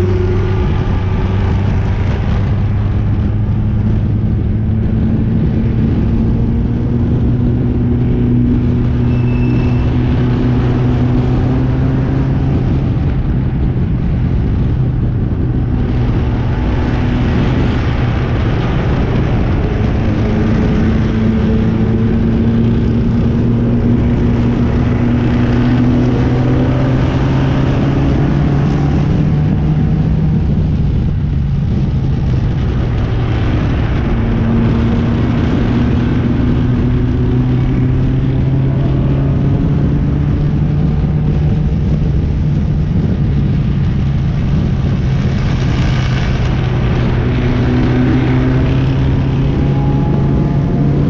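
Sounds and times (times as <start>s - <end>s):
race car engine: 0.0s - 51.0s
wind and road noise: 0.0s - 51.0s.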